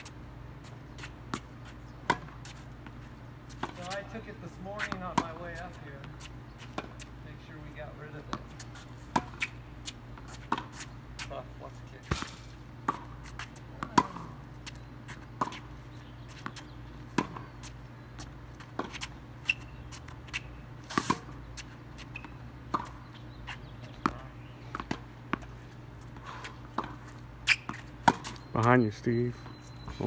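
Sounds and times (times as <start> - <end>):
tennis ball bouncing: 0.8 - 11.3, 12.0 - 28.5.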